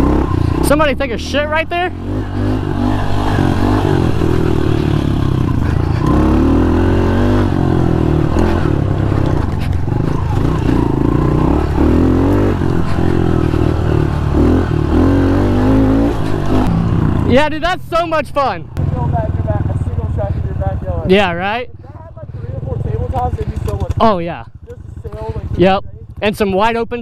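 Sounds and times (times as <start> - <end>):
motorbike engine revving: 0.0 - 26.7.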